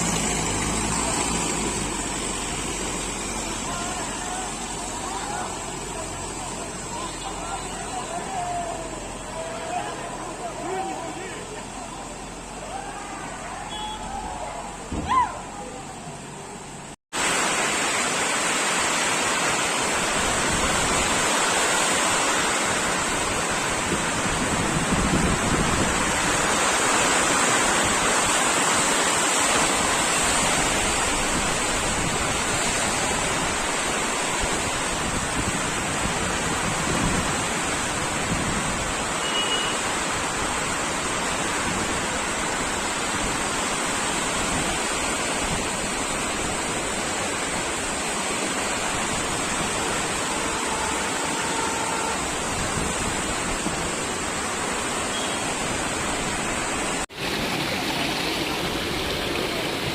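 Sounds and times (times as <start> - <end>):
floodwater rushing: 0.0 - 59.9.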